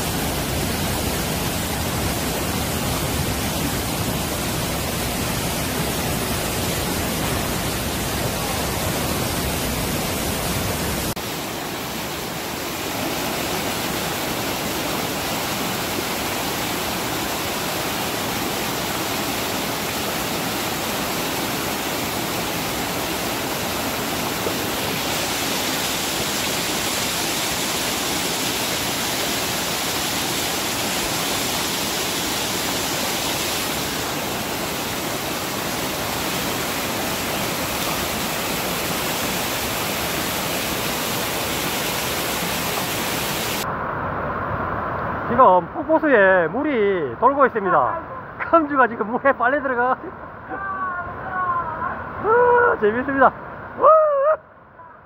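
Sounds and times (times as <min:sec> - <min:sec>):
waterfall rushing: 0:00.0 - 0:54.1.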